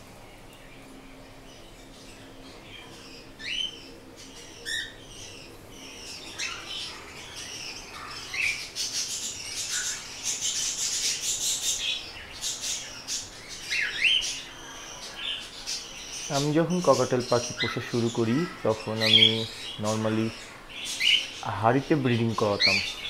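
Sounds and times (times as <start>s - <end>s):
cockatiels chirping and squawking: 3.0s - 21.4s, 22.4s - 23.0s.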